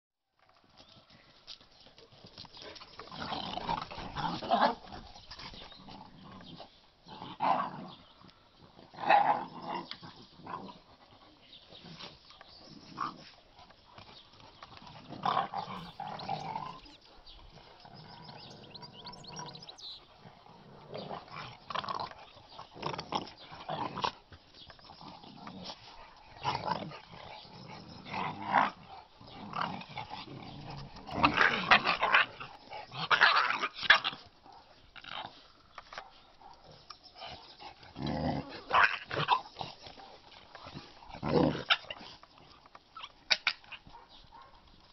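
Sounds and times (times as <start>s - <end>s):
dogs growling: 2.6s - 44.9s.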